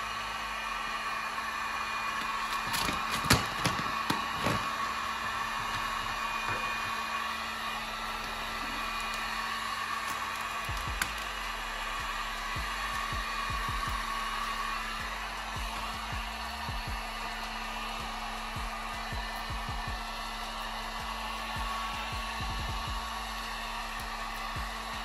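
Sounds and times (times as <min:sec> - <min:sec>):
heat gun fan whine and hiss: 0:00.0 - 0:25.0.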